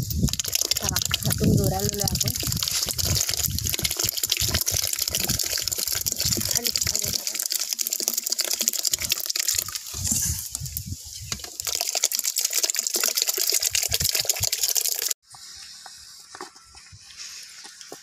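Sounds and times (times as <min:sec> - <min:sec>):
wet grain gushing into water: 0:00.0 - 0:15.2.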